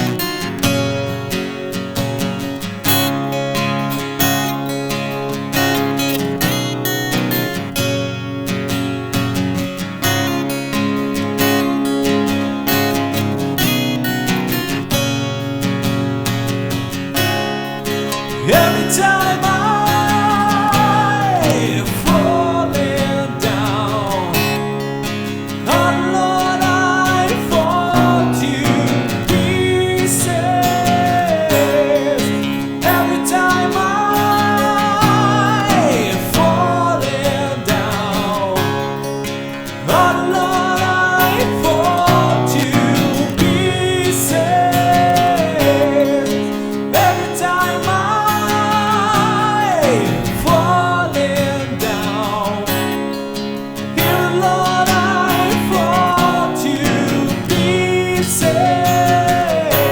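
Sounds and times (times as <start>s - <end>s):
acoustic guitar strumming chords: 0.0s - 59.9s
guitar lead melody bending: 0.0s - 59.9s.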